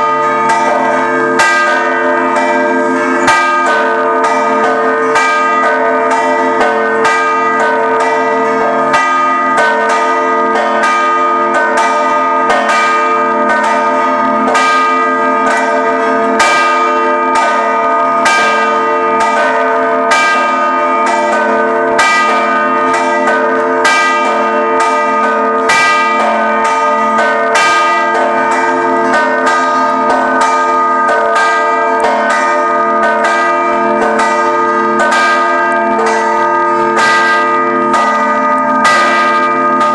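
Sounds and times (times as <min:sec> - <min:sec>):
church bells ringing a peal: 0:00.0 - 0:39.9.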